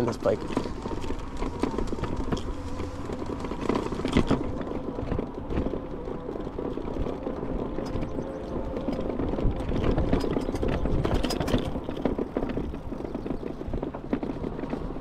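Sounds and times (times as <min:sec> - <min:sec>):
bike tyre and frame rumble: 0:00.0 - 0:15.0
knocks and rattles over bumps: 0:00.0 - 0:15.0.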